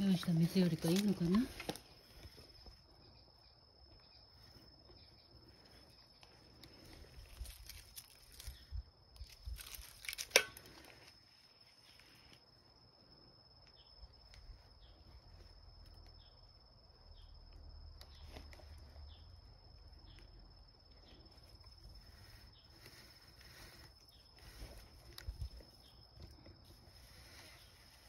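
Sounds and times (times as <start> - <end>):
insect chirps: 0.0 - 28.0.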